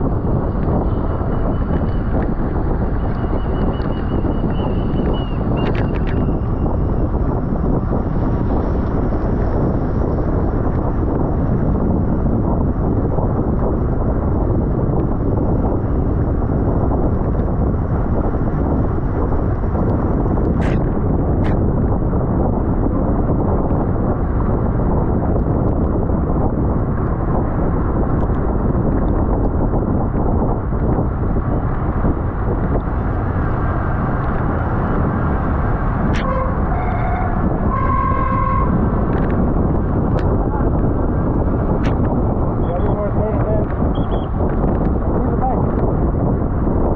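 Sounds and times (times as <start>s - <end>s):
tyre and road noise: 0.0s - 46.9s
wind buffeting microphone: 0.0s - 46.9s.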